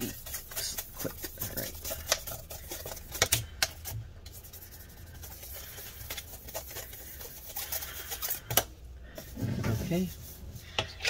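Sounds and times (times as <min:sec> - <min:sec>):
brush scratching: 0:00.0 - 0:03.2, 0:03.8 - 0:08.5, 0:09.2 - 0:10.8.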